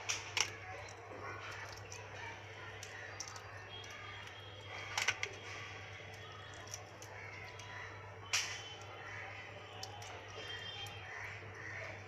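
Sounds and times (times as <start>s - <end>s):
crab shell cracking: 0.0s - 11.4s.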